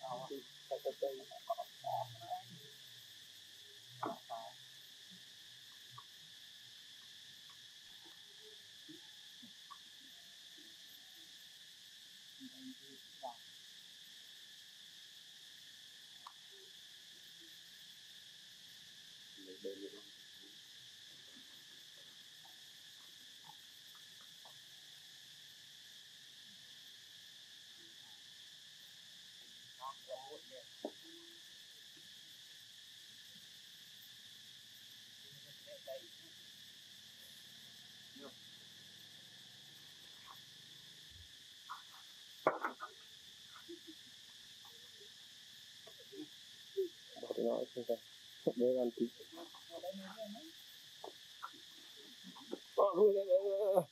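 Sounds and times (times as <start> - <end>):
insect chorus: 0.0 - 53.9.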